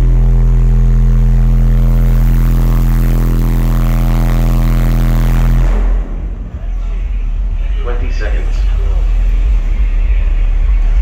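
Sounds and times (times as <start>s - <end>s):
very loud deep bass note: 0.0s - 11.0s.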